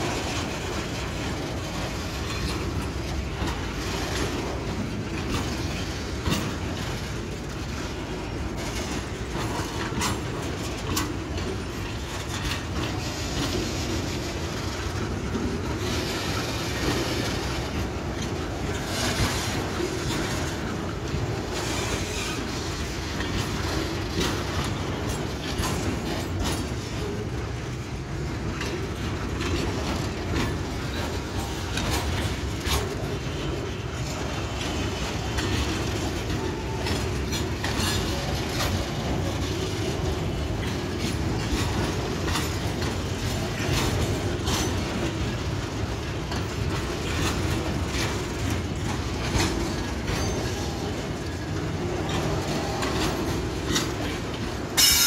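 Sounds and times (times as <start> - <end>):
steel wheels rumbling on rails: 0.0 - 55.0
wheels clacking over rail joints: 0.0 - 55.0.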